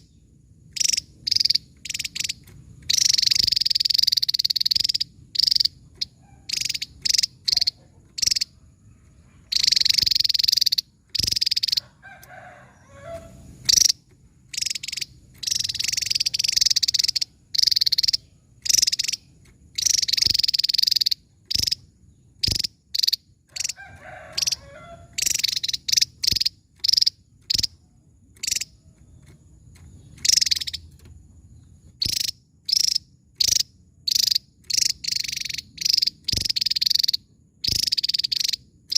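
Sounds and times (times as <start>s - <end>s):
bird singing high-pitched bursts: 0.0s - 8.6s, 9.5s - 27.8s, 28.4s - 28.8s, 30.0s - 31.0s, 31.9s - 38.9s
fainter lower bird call: 0.0s - 38.9s.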